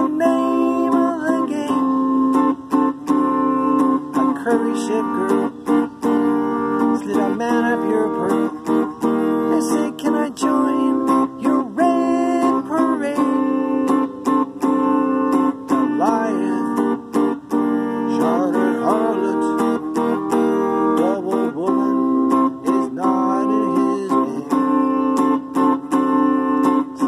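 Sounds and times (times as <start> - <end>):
man singing: 0.0 - 25.7
electric guitar chords: 0.0 - 27.0.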